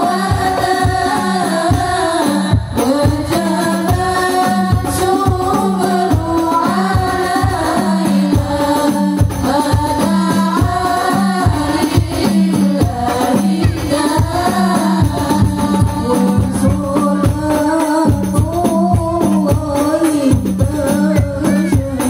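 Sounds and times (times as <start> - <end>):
frame drums beating: 0.0 - 22.0
women singing devotional song: 0.0 - 22.0.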